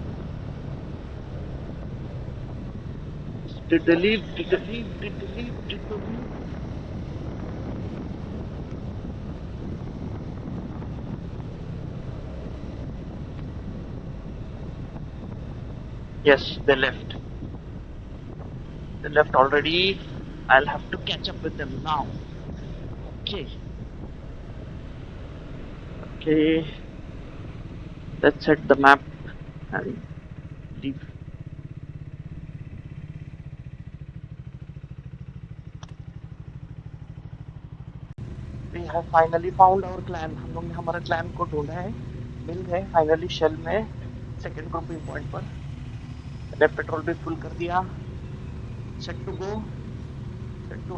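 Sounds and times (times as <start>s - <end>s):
motorcycle engine running: 0.0s - 50.9s
wind buffeting microphone: 0.0s - 50.9s.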